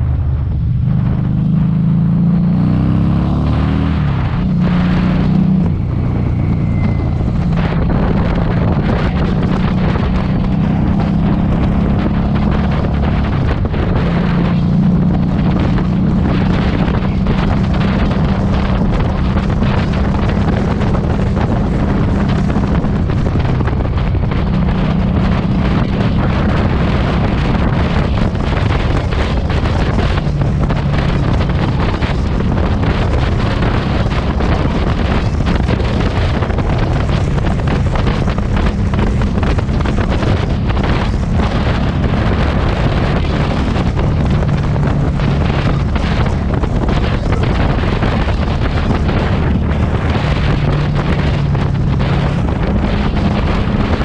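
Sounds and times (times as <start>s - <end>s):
motorcycle engine running: 0.0s - 54.0s
wind buffeting on microphone: 0.0s - 54.0s.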